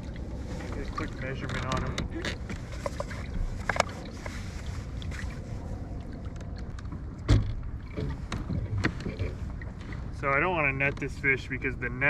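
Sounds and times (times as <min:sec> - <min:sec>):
low wind: 0:00.0 - 0:12.0
water around a kayak: 0:00.0 - 0:12.0.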